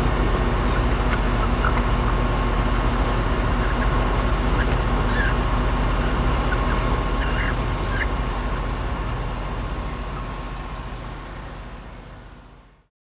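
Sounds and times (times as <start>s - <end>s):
chickens calling: 0.0s - 11.8s
faint steady whine: 0.0s - 12.9s
low vehicle rumble: 0.0s - 12.9s.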